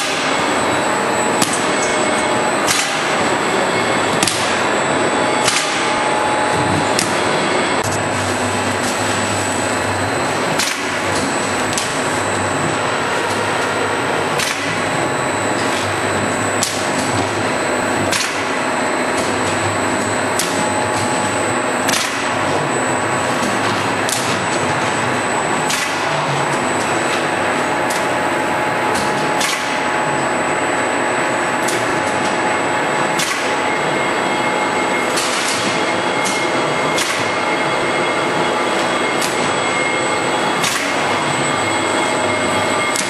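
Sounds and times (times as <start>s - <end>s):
machine whirring: 0.0s - 43.0s.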